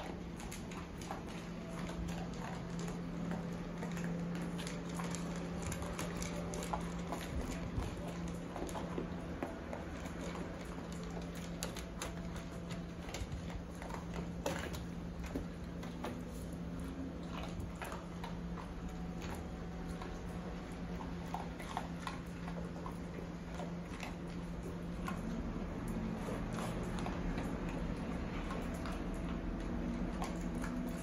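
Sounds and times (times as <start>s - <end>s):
dogs crunching dry kibble: 0.0s - 31.0s
paws ticking on tiles: 0.0s - 31.0s.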